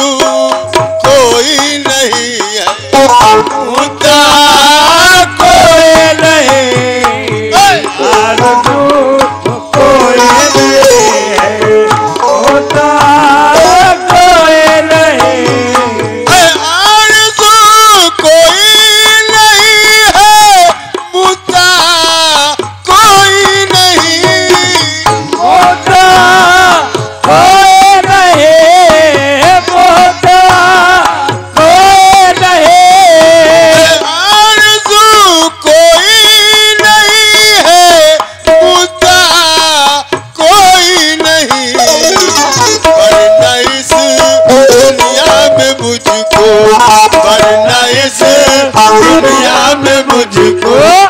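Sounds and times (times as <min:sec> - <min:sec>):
hand-drum strokes: 0:00.0 - 0:51.0
harmonium: 0:00.0 - 0:51.0
lead singer's voice: 0:00.0 - 0:51.0
qawwali music: 0:00.0 - 0:51.0.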